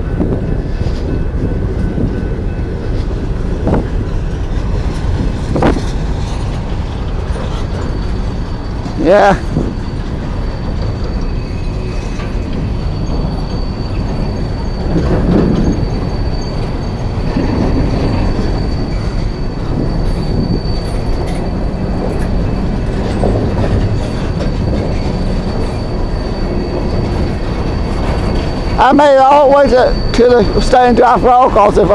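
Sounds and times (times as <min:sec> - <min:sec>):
steel wheels rumbling on rail: 0:00.0 - 0:31.9
high-pitched wheel squeal: 0:04.7 - 0:31.9.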